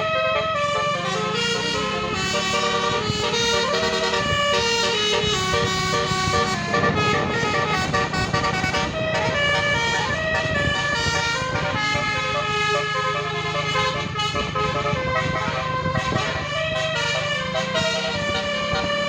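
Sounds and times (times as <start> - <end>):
bus engine running: 0.0 - 19.0
multi-tone bus horn tune: 0.0 - 19.0.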